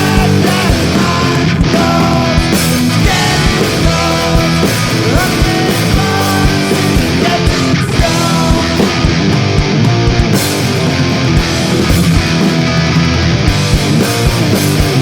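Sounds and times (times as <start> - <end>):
distorted electric guitar: 0.0 - 15.0
steady drum beat: 0.0 - 15.0.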